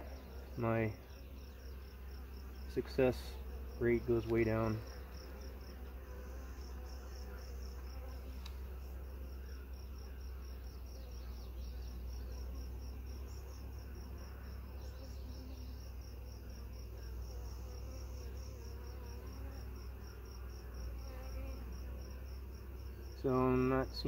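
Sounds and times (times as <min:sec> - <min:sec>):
honeybees buzzing: 0:00.0 - 0:24.0
insect chirping in pulses: 0:00.0 - 0:24.0.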